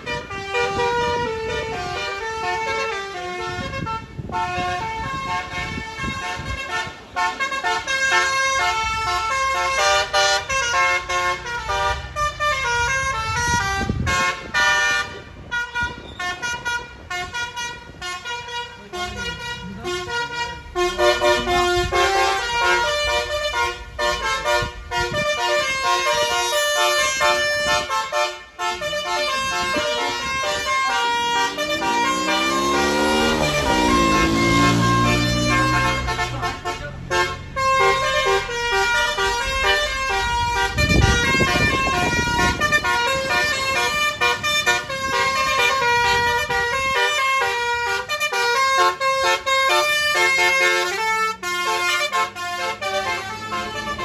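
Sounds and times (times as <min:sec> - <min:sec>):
bus engine rumble: 0:00.0 - 0:54.0
bus horn playing a melody: 0:00.0 - 0:54.0.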